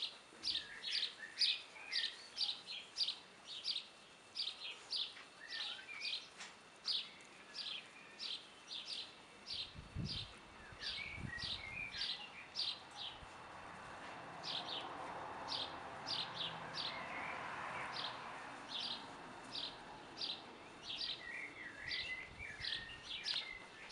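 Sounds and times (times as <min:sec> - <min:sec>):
songbird chirping: 0:00.0 - 0:23.9.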